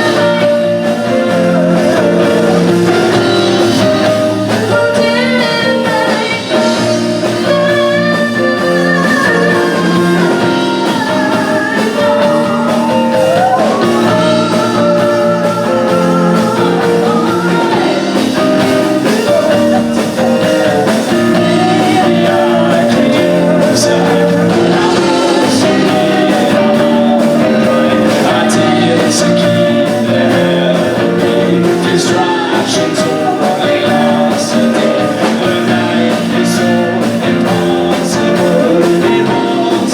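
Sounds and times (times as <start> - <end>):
drums: 0.0 - 39.9
lead guitar: 0.0 - 39.9
person singing: 0.0 - 39.9.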